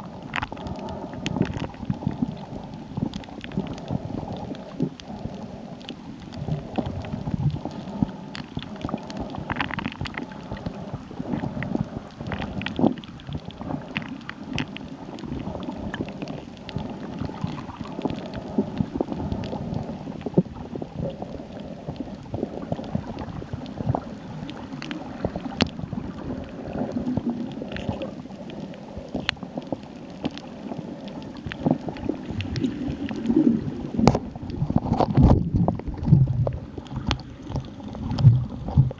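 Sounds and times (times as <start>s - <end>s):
small underwater clicks: 0.0s - 38.9s
water churning underwater: 0.0s - 38.9s.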